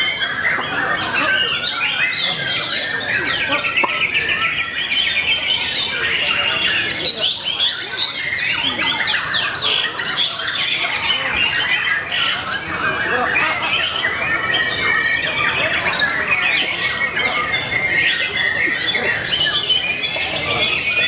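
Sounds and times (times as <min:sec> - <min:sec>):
songbirds chorus: 0:00.0 - 0:21.0.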